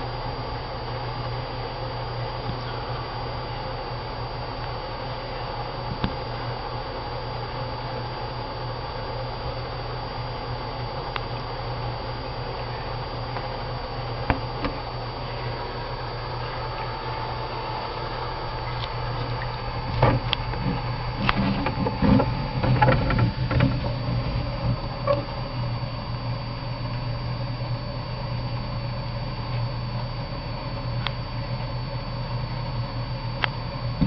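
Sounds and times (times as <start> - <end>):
faint high whine: 0.0 - 34.0
steady low hum: 0.0 - 34.0.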